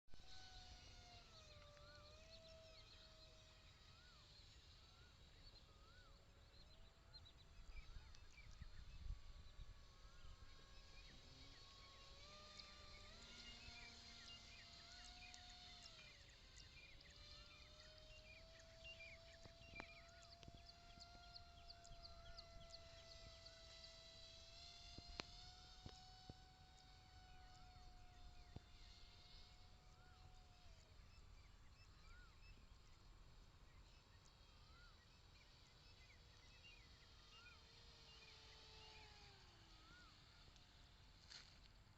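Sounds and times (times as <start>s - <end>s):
distant model plane motor whine: 0.1s - 41.9s
faint steady hum: 0.1s - 41.9s
bird chirps: 1.4s - 24.2s, 28.2s - 40.2s.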